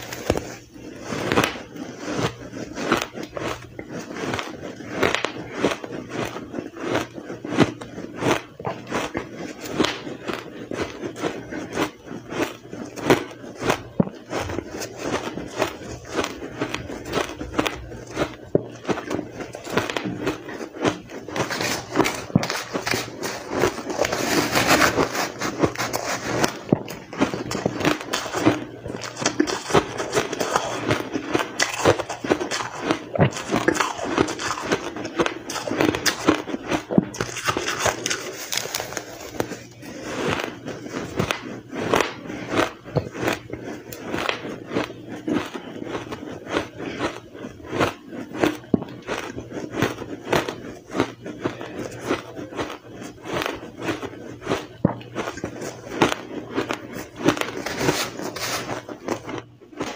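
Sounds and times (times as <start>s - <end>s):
chewing crunchy shaved ice: 0.0s - 59.9s.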